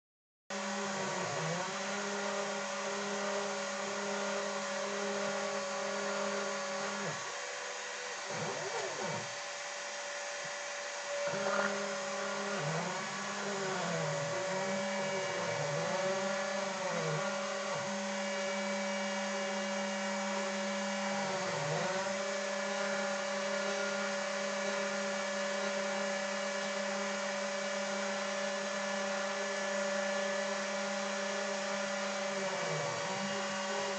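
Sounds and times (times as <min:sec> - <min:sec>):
spindle motor whine: 0:00.5 - 0:33.9
stepper motors whining: 0:00.6 - 0:33.9.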